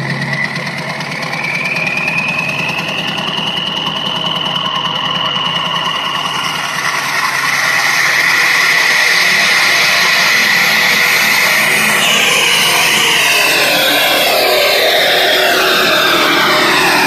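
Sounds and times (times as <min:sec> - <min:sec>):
diesel engine knocking: 0:00.0 - 0:17.0
high whine: 0:00.0 - 0:17.0.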